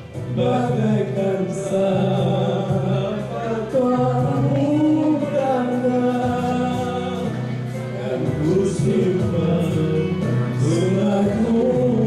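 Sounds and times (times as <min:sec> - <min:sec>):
music over pa system: 0:00.0 - 0:12.0
man and woman singing a duet: 0:00.3 - 0:12.0.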